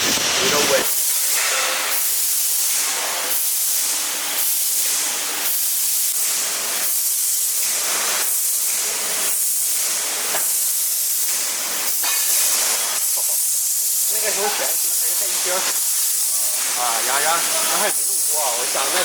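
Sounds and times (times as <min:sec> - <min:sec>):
pressurized jet hissing: 0:00.0 - 0:19.0.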